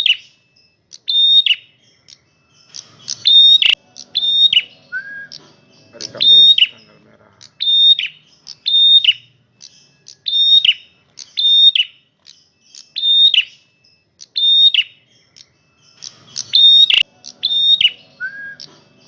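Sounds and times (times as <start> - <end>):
bird singing sharp high calls: 0.0 - 19.0.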